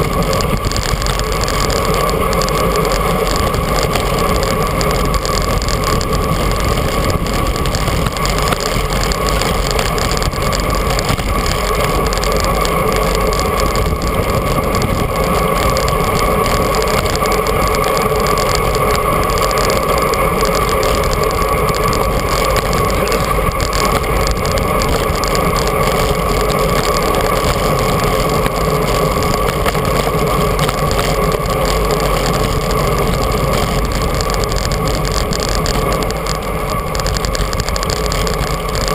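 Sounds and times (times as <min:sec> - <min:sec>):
constant hum: 0:00.0 - 0:38.9
wind and bicycle tyre noise: 0:00.0 - 0:38.9.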